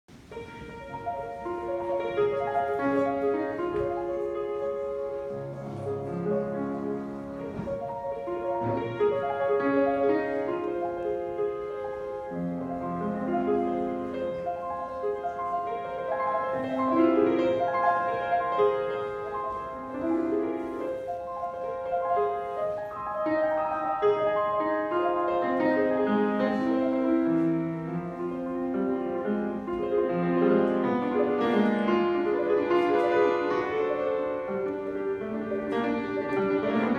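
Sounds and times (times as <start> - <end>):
solo grand piano piece: 0.1 - 36.9.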